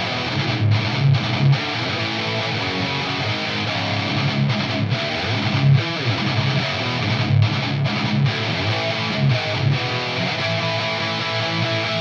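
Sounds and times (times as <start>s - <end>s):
electric guitar riff: 0.0s - 12.0s.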